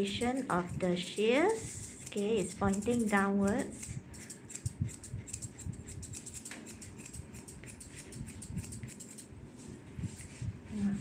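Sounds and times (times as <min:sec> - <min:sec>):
shears snipping fur: 0:00.0 - 0:09.4.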